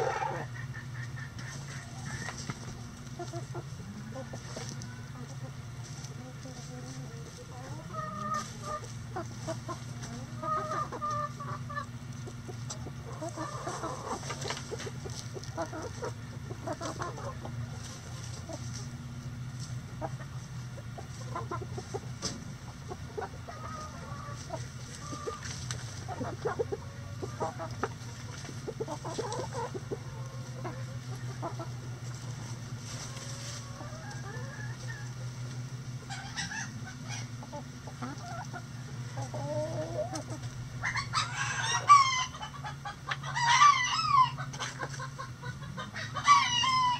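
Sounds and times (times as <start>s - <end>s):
hens clucking: 0.0s - 46.9s
steady low hum: 0.0s - 46.9s.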